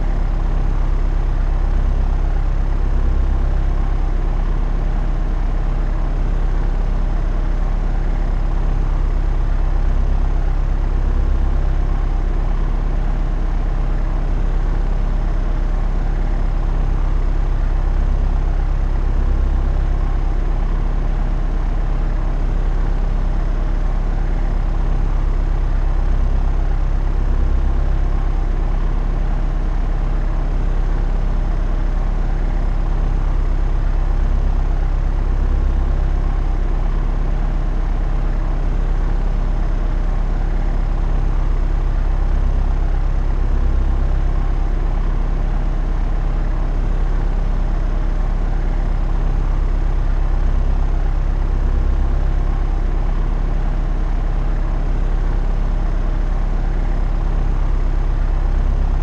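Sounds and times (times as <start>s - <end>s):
propeller aircraft drone: 0.0s - 59.0s.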